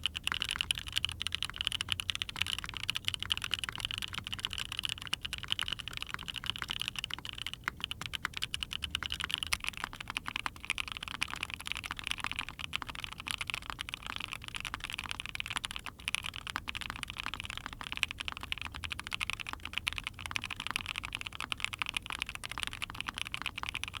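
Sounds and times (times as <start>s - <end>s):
fast typing on mechanical keyboard: 0.0s - 24.0s.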